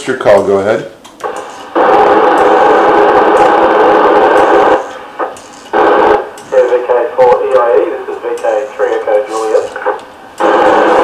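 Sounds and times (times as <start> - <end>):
radio static hissing: 1.2 - 11.0.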